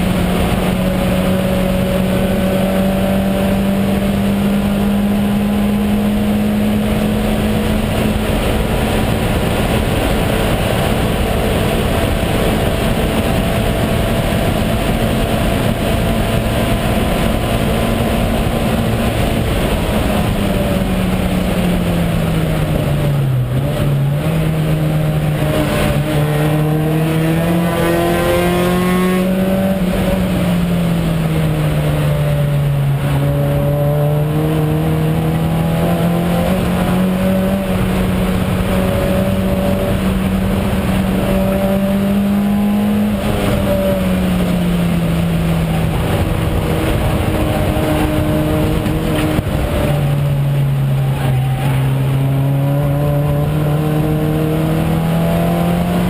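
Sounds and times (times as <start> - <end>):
race car engine running hard: 0.0 - 56.0
road and wind noise: 0.0 - 56.0.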